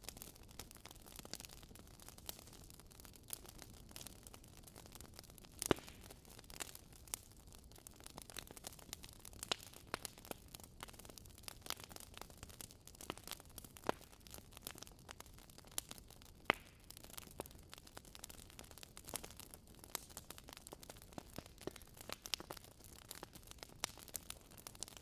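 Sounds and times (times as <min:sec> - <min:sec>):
faint steady hiss: 0:00.0 - 0:25.0
wood fire crackling: 0:00.0 - 0:25.0.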